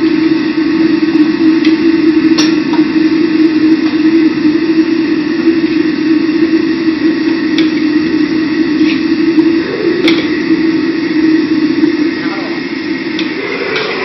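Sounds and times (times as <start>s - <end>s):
kitchen equipment hum: 0.0s - 14.0s.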